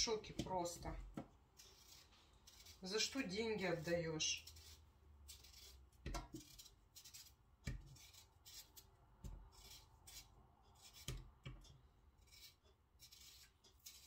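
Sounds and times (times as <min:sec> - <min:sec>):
knife scraping potato peel: 0:00.0 - 0:14.0.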